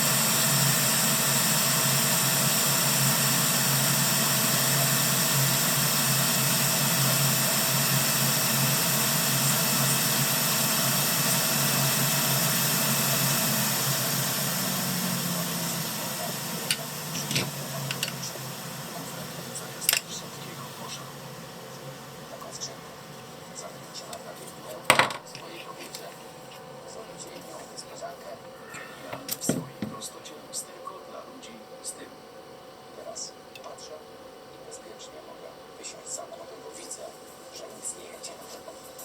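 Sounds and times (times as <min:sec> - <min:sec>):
hot air station hissing: 0:00.0 - 0:39.0.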